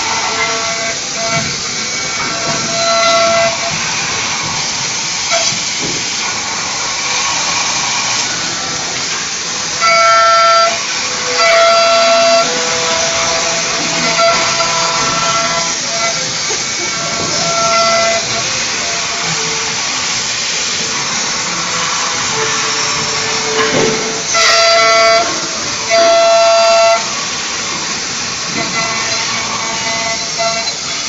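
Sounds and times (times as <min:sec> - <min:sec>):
machine hiss: 0:00.0 - 0:31.0
spindle whine: 0:00.0 - 0:31.0.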